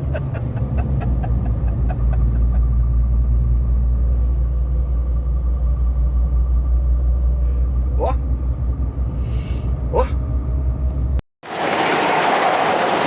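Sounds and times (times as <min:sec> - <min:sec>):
truck diesel engine rumble: 0:00.0 - 0:11.2.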